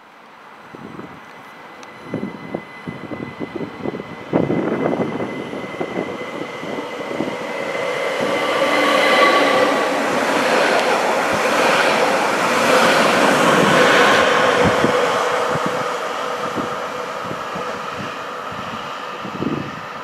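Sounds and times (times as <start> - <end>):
train rushing rumble: 0.6 - 20.0.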